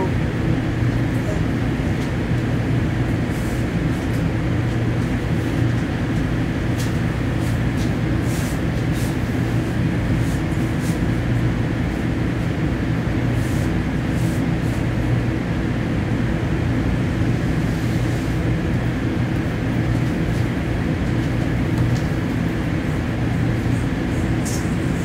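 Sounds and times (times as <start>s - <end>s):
train rumbling in motion: 0.0s - 12.6s, 17.3s - 25.0s.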